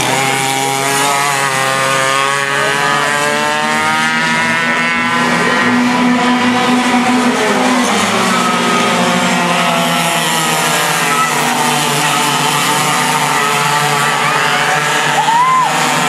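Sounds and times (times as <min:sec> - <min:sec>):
racing kart engines: 0:00.0 - 0:16.0.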